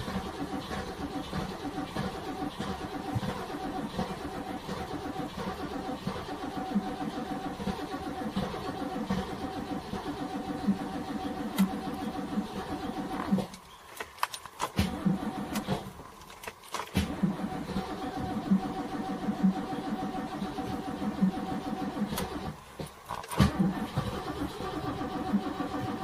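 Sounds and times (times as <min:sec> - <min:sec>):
race car engine pulsing: 0:00.0 - 0:26.0.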